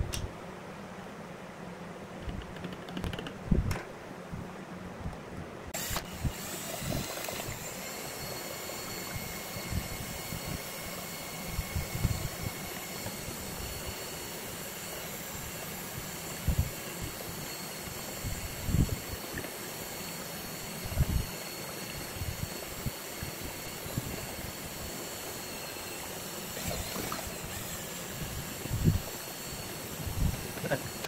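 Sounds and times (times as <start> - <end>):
cordless drill mixing resin: 5.8 - 31.0.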